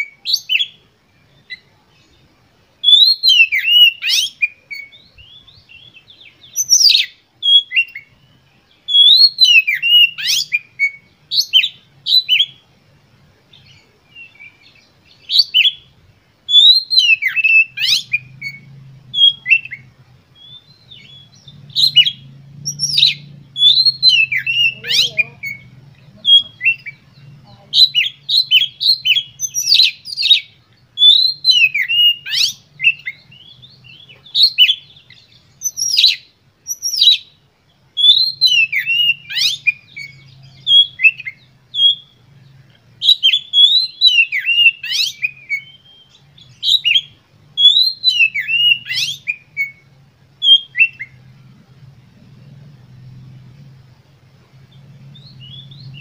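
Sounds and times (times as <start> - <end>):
bird singing whistled notes: 0.0 - 54.0, 54.6 - 56.0.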